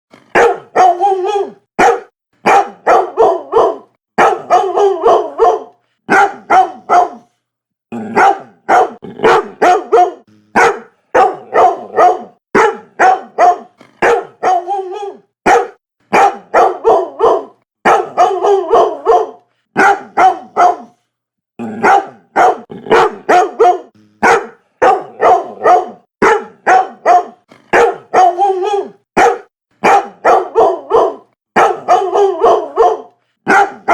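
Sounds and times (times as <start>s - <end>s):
dog barking loudly: 0.3s - 7.3s, 8.0s - 21.0s, 21.7s - 33.9s.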